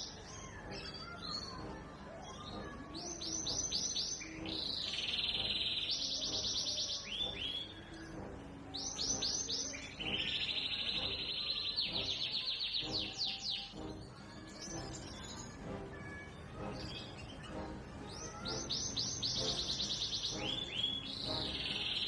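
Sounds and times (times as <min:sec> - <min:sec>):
canary singing trills: 0:00.0 - 0:22.0
soft music: 0:00.0 - 0:22.0.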